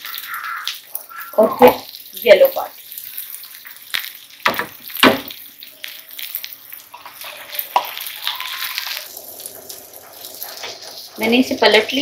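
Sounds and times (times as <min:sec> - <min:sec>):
vegetables and egg sizzling in a pan: 0:00.0 - 0:12.0.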